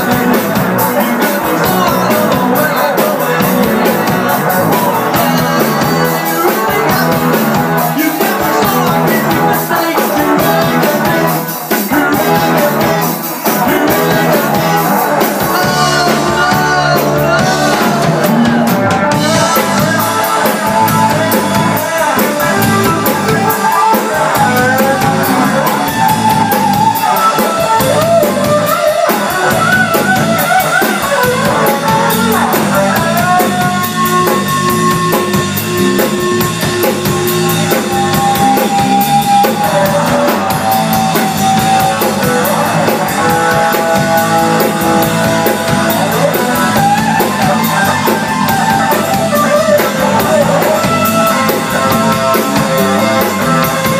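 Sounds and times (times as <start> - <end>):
drum kit steady beat: 0.0 - 53.9
electric guitar lead with bends: 0.0 - 53.9.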